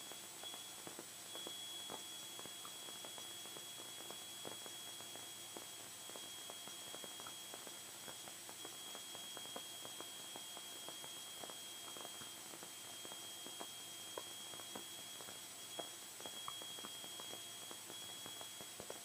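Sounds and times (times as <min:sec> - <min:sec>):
faint electrical hiss: 0:00.0 - 0:19.0.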